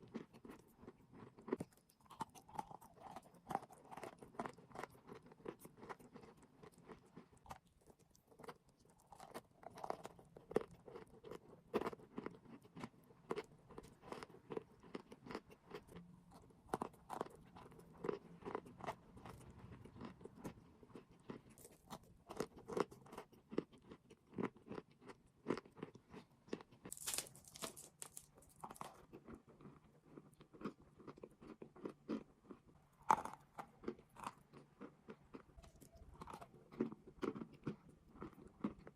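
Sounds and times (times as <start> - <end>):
person chewing crunchy chalk: 0.0 - 38.9.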